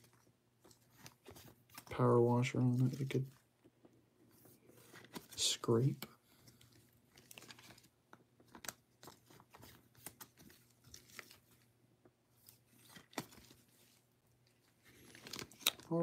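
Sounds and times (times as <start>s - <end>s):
plastic card sleeves rustling: 0.0s - 16.0s.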